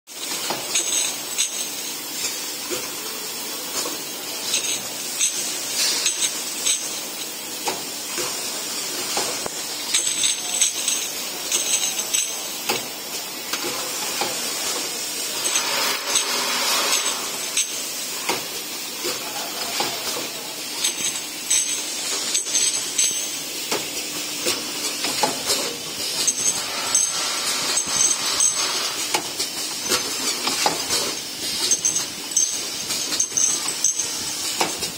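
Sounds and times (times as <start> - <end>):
glass bottles clinking: 0.2 - 2.8, 3.7 - 13.0, 13.6 - 34.9
machine clatter: 0.2 - 34.9.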